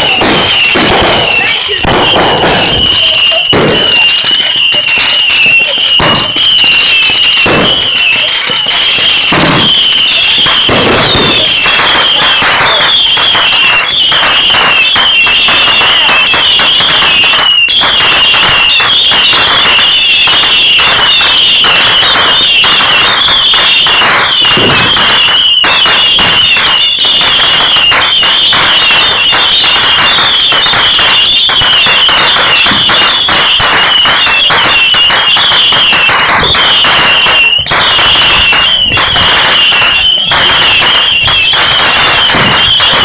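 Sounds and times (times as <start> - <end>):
fireworks and firecrackers banging: 0.0 - 43.0
wavering high-pitched alarm tone: 0.0 - 43.0.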